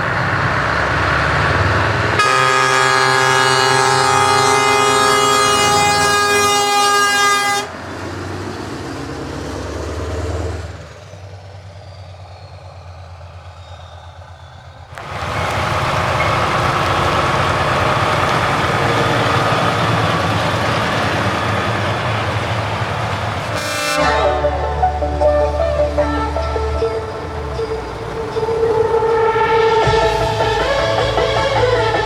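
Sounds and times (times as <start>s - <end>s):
loud truck engine running: 0.0s - 32.0s
low truck engine: 0.0s - 32.0s.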